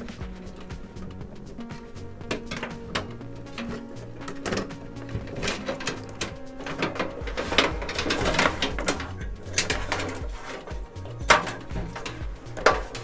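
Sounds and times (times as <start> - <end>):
background music with low beat: 0.0 - 13.0
cables rattling in metal case: 0.0 - 13.0.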